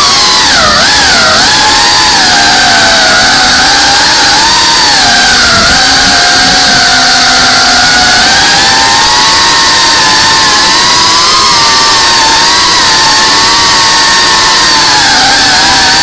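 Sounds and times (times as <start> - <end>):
drone motors whining: 0.0 - 16.0
propeller wash rushing: 0.0 - 16.0.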